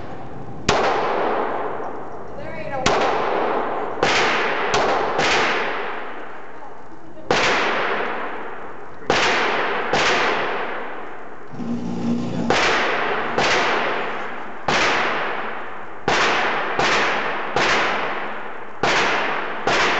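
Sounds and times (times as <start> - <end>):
gunshots echoing indoors: 0.6 - 2.1, 2.8 - 6.5, 7.3 - 11.4, 12.4 - 19.9.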